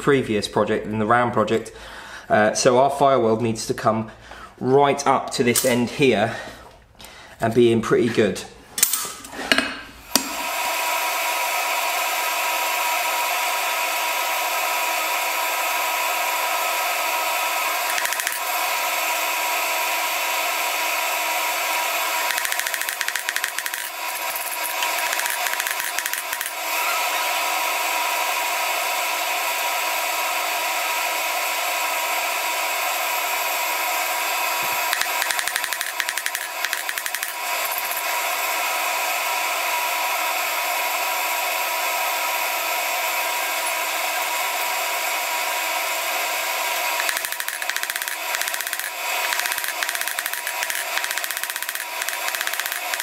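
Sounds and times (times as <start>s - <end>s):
forge air blower rushing: 9.9s - 53.0s.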